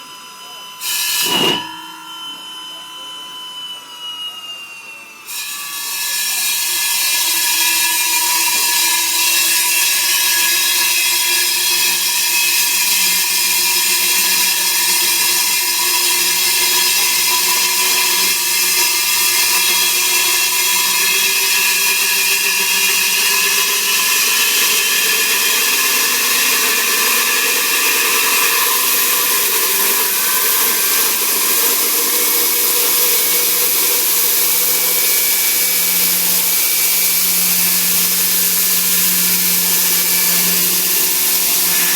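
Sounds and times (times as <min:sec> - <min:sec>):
drill bit grinding concrete: 0:00.0 - 0:02.0, 0:02.7 - 0:41.9
drill motor whine: 0:00.0 - 0:41.9.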